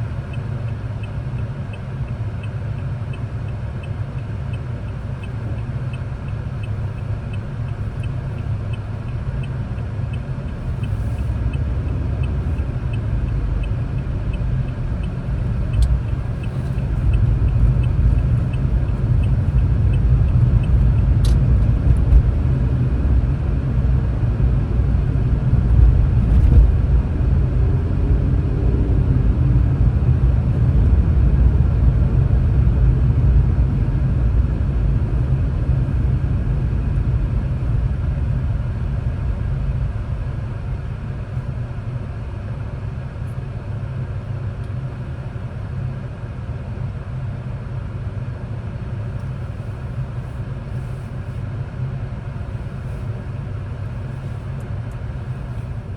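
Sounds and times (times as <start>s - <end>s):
car engine and tyre noise: 0.0s - 55.9s.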